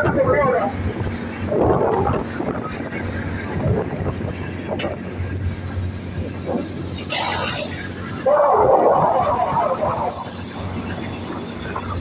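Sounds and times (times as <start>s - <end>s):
boat engine humming: 0.0s - 12.0s
wind on the microphone: 0.0s - 12.0s.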